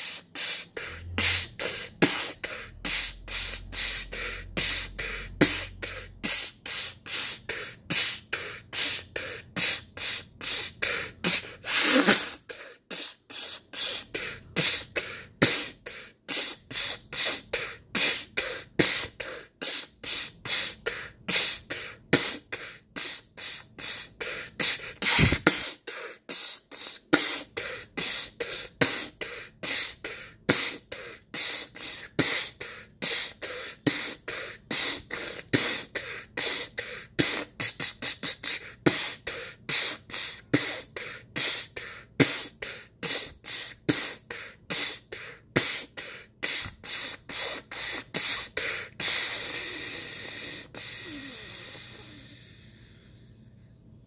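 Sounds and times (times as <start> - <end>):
beatbox hissing puffs: 0.0 - 53.2.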